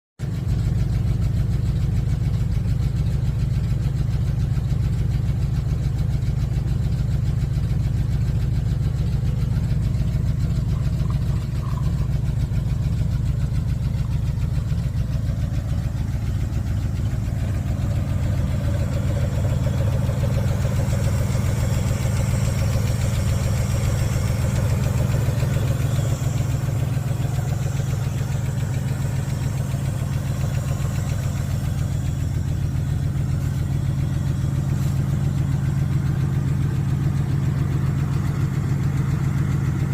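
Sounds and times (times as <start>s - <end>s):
engine idling: 0.2s - 39.9s
lifter ticking: 7.6s - 39.9s.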